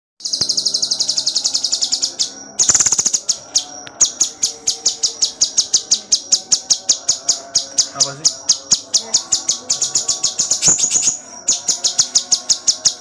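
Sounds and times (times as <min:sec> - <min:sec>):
songbird chirping rapidly: 0:00.2 - 0:13.0.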